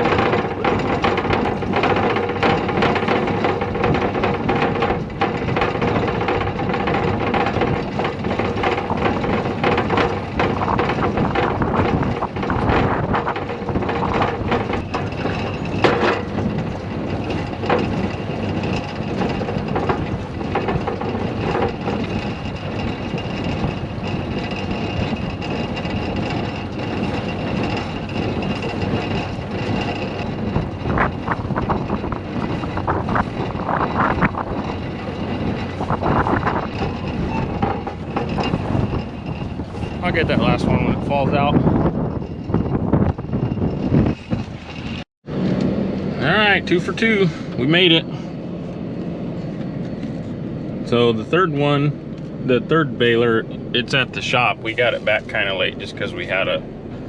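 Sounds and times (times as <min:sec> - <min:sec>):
tractor and hay baler running: 0:00.0 - 0:57.0.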